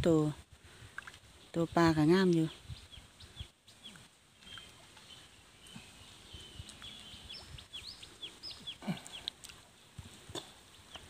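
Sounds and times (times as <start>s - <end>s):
small birds chirping: 1.4s - 11.0s.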